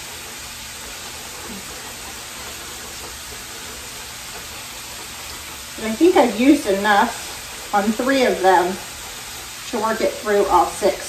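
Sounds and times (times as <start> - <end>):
meat and vegetables sizzling in skillet: 0.0 - 11.0.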